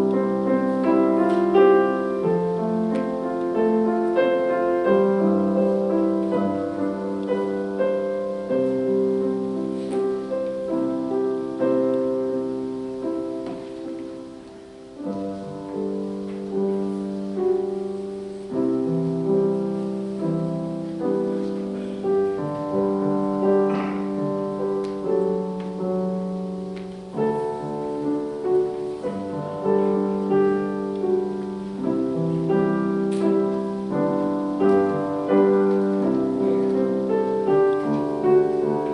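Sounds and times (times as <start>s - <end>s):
slow gentle solo piano: 0.0s - 38.9s.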